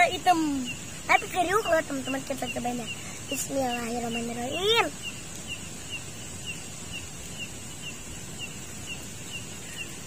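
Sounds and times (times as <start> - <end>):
small animal chirping: 0.0 - 10.0
steady high hiss: 0.0 - 10.0.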